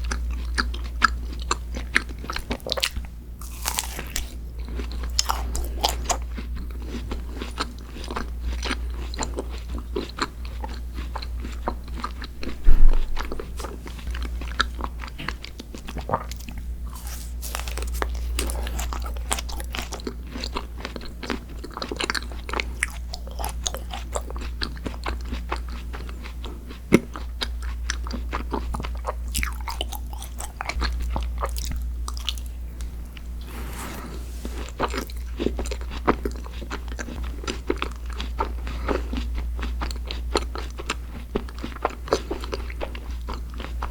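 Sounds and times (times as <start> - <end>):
low steady hum: 0.0 - 43.9
person chewing crunchy sweets: 0.0 - 43.9.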